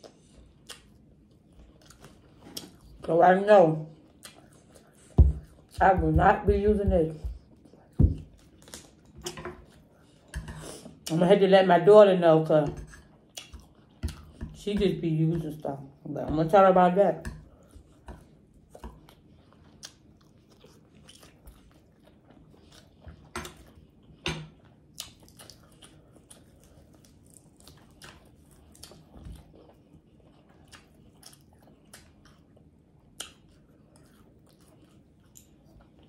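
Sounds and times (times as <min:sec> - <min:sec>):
person chewing crunchy food: 0:00.0 - 0:03.0, 0:03.9 - 0:11.2, 0:13.0 - 0:14.4, 0:17.4 - 0:36.0.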